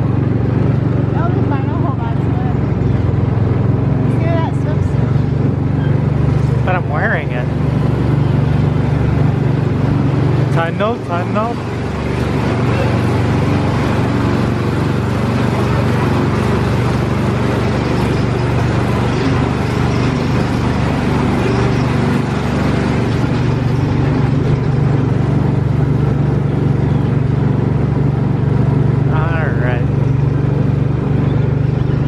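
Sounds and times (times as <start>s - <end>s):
ride vehicle humming and rumbling: 0.0s - 32.0s.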